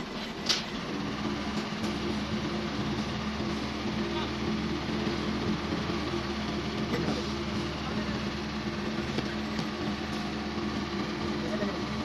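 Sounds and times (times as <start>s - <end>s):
electric motor humming: 0.9s - 12.0s.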